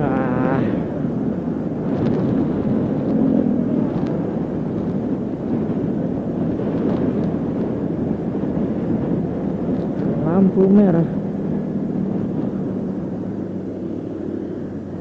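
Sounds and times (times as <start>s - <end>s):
wind and road noise: 0.0s - 15.0s
motorcycle engine running: 1.1s - 15.0s.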